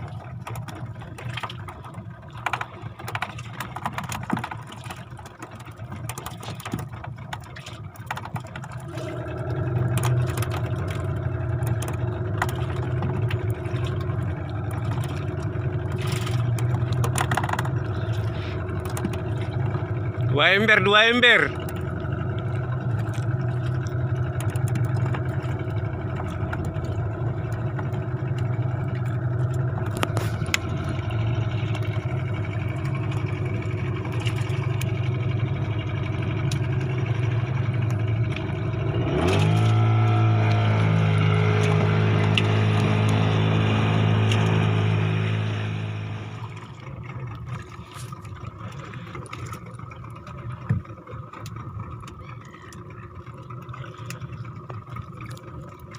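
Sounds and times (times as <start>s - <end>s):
boat engine running and revving: 0.0s - 55.9s.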